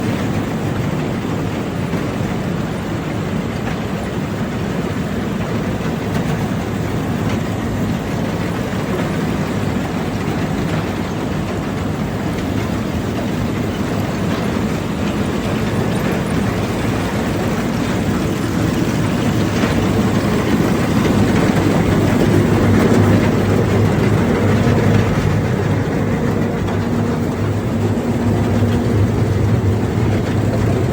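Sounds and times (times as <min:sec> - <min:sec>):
grain cleaning machine rumbling: 0:00.0 - 0:30.9.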